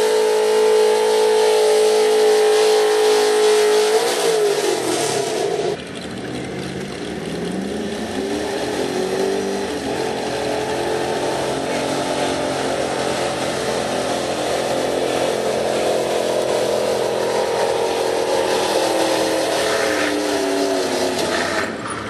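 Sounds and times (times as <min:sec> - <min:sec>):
truck engine at high revs: 0:00.0 - 0:22.0.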